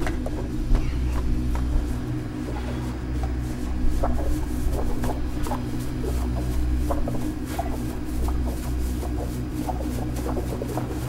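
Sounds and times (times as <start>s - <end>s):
low music drone: 0.0s - 11.0s.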